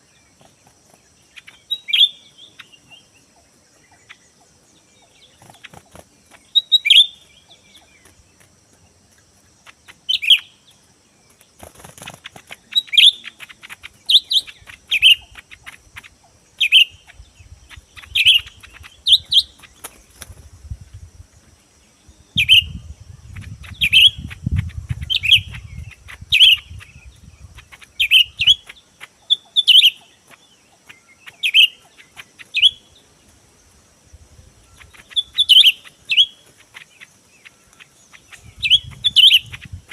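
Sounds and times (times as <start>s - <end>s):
bird calling: 1.2s - 8.2s, 9.6s - 11.0s, 11.6s - 20.3s, 22.3s - 33.3s, 34.6s - 39.9s.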